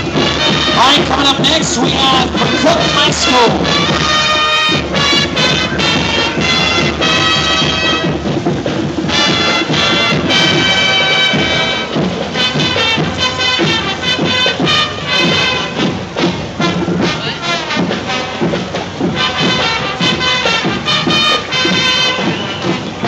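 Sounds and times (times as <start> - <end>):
drum hits: 0.0 - 23.0
marching band wind instruments: 0.0 - 23.0.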